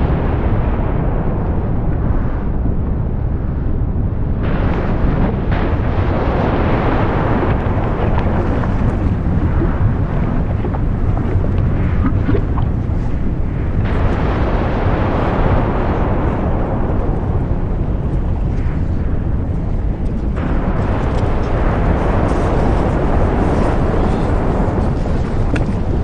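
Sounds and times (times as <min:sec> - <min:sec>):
deep volcanic rumble: 0:00.0 - 0:26.0
faint crackles: 0:04.4 - 0:26.0.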